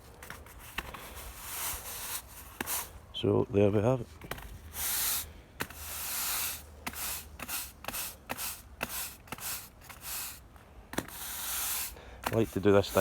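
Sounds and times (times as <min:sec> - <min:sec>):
broom sweeping sand on paving: 0:00.0 - 0:03.0, 0:04.0 - 0:13.0.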